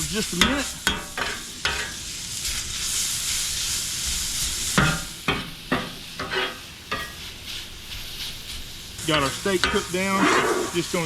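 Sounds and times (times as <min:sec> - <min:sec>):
metal spatulas scraping griddle: 0:00.0 - 0:11.0
steak sizzling on griddle: 0:00.0 - 0:11.0.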